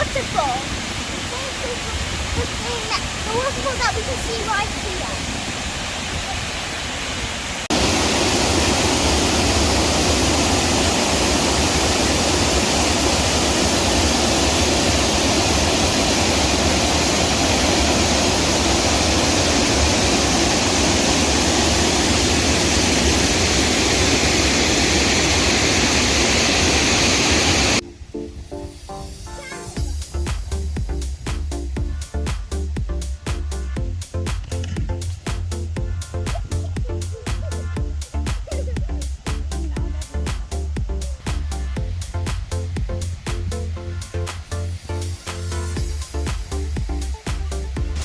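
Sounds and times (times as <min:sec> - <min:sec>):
waterfall rushing: 0:00.0 - 0:27.8, 0:28.4 - 0:48.0.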